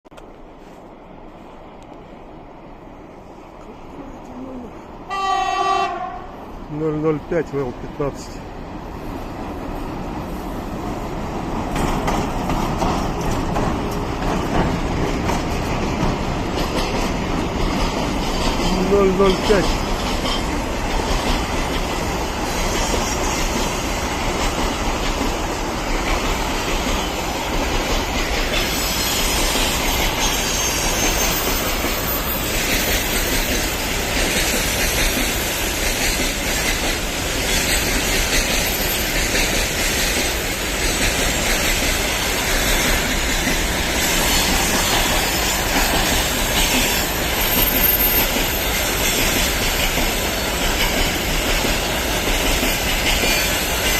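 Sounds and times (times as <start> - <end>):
rail noise: 0.0 - 53.9
freight train rumbling past: 0.1 - 53.9.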